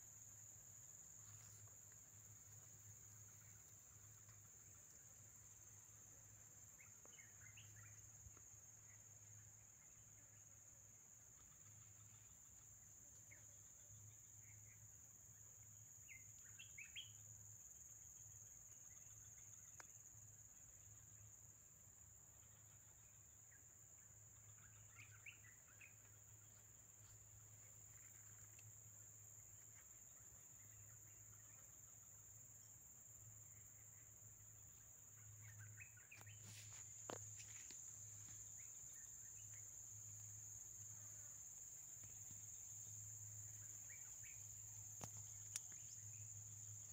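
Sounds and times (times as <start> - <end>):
insect trill: 0.0 - 46.9.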